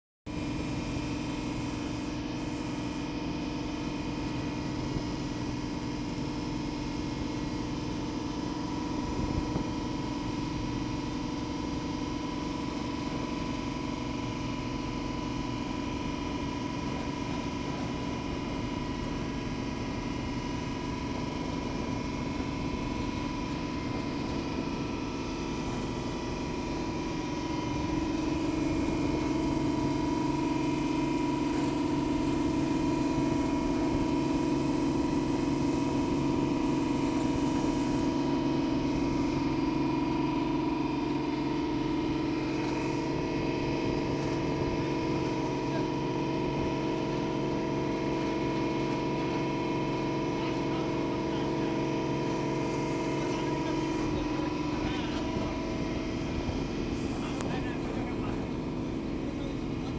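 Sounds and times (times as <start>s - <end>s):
boat engine drone: 0.3s - 59.9s.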